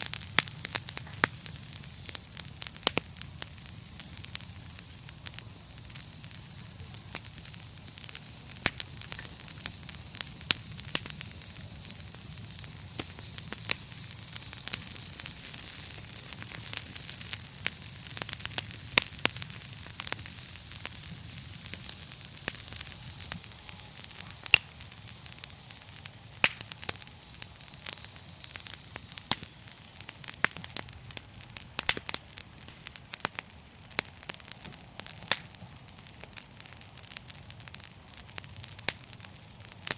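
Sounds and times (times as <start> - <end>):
fire pops and crackles: 0.0 - 39.9
wood fire rumble and hiss: 0.0 - 39.9.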